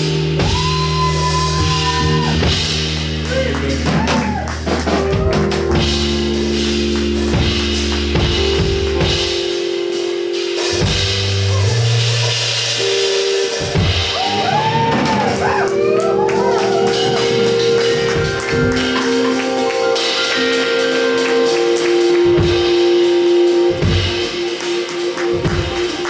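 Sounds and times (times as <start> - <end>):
drum kit hits: 0.0 - 26.0
held keyboard chords: 0.0 - 26.0.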